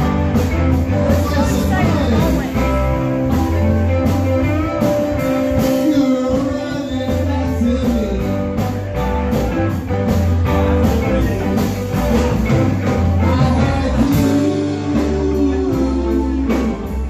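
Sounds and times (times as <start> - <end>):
amplified electric guitars: 0.0 - 17.0
drums keeping a beat: 0.0 - 17.0.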